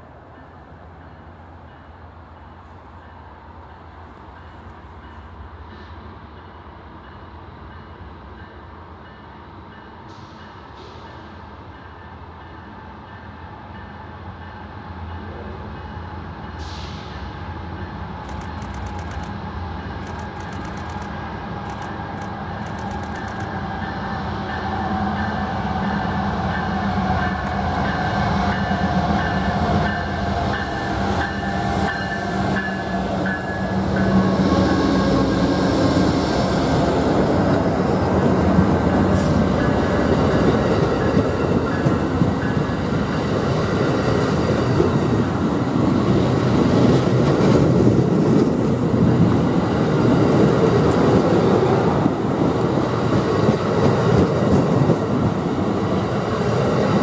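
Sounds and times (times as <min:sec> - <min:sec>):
diesel locomotive engine: 0:00.0 - 0:57.0
train wheels clickety-clack: 0:00.4 - 0:57.0.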